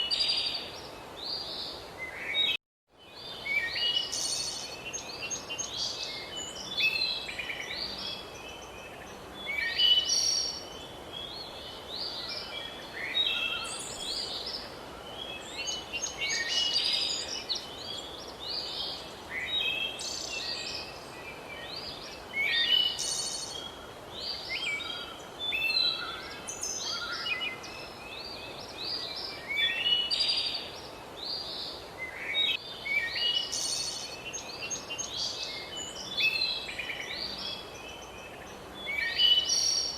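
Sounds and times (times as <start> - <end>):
background hiss: 0.0 - 39.9
songbirds chirping and singing: 0.0 - 39.9.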